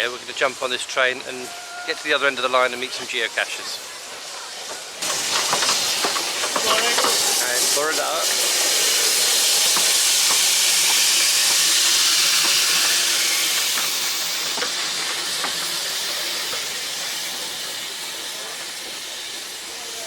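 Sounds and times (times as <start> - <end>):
steam locomotive hissing steam: 0.0 - 20.0.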